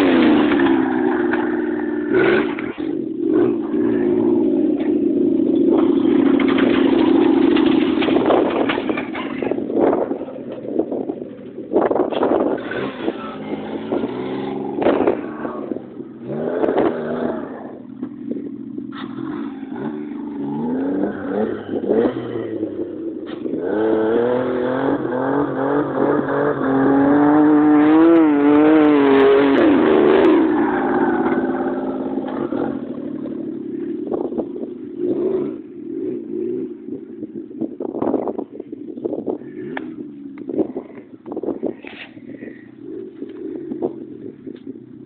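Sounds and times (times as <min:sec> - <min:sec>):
buggy engine revving: 0:00.0 - 0:45.0.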